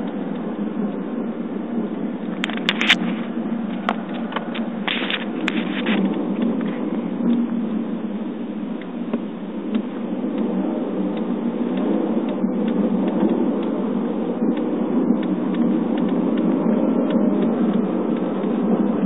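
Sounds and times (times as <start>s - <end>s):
road and drivetrain rumble: 0.0s - 19.0s.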